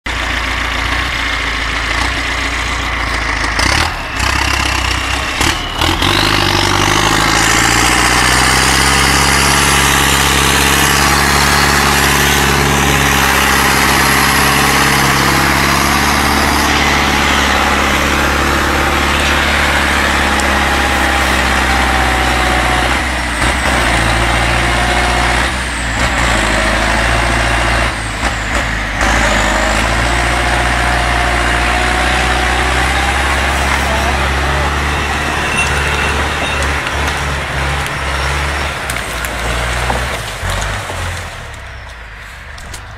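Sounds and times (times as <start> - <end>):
tractor diesel engine under load: 0.0 - 42.9.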